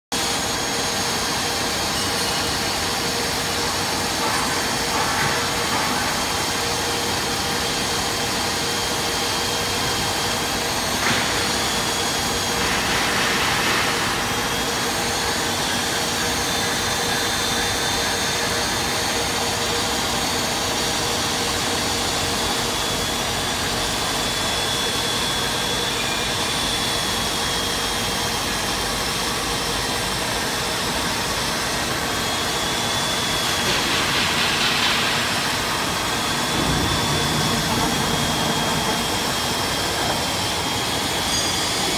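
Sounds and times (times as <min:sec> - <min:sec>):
drilling machine hum and whine: 0:00.2 - 0:41.9.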